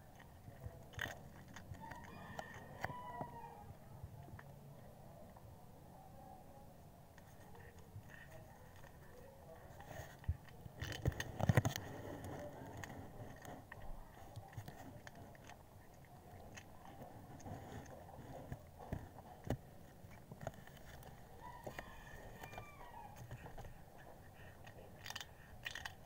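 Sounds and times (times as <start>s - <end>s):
cat crunching chips: 0.0s - 3.4s, 7.2s - 26.0s.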